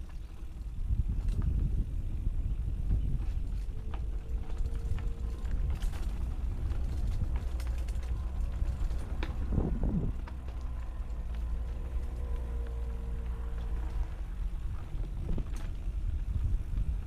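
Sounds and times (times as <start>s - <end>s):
bike clicks and rattles: 0.0s - 17.0s
bike ride and wind rumble: 0.0s - 17.0s.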